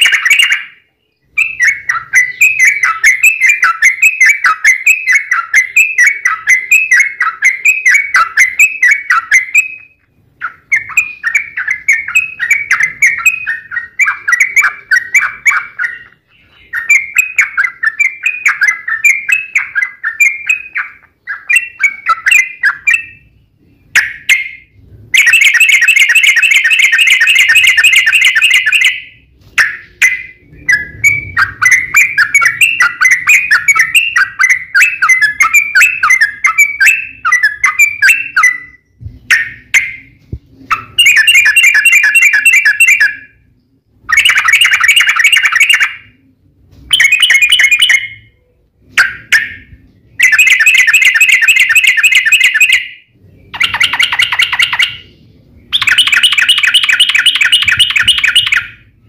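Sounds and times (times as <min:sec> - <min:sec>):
bulbul chattering song: 0:00.0 - 0:59.0.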